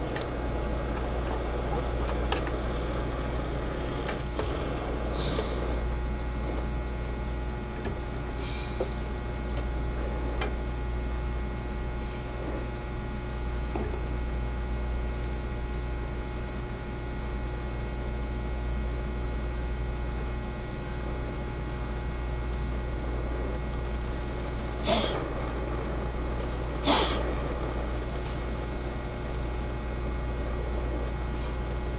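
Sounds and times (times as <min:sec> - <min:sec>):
low machine hum: 0:00.0 - 0:31.9.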